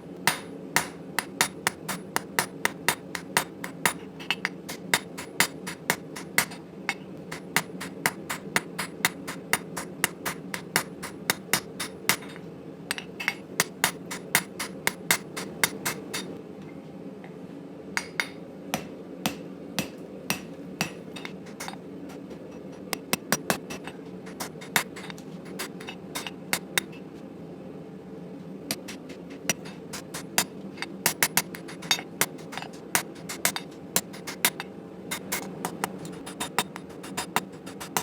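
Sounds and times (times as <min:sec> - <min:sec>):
steady low hum: 0:00.0 - 0:38.0
hammer striking hot steel: 0:00.3 - 0:16.3, 0:18.0 - 0:27.0, 0:28.7 - 0:38.0.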